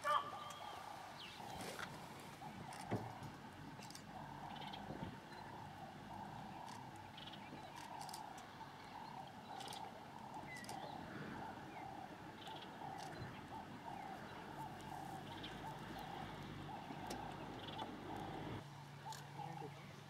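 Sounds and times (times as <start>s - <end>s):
faint animal calls: 0.0s - 19.8s.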